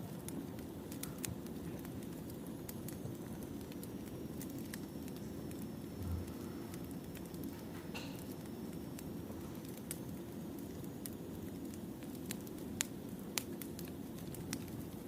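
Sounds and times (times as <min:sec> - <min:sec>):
fire crackles and pops: 0:00.0 - 0:15.0
low rush of wood fire: 0:00.0 - 0:15.0.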